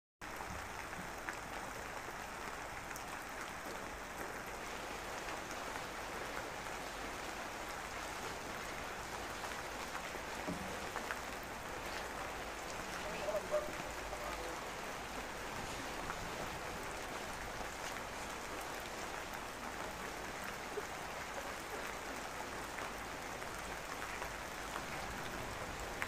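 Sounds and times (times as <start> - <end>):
steady rain on wet ground: 0.2 - 26.0.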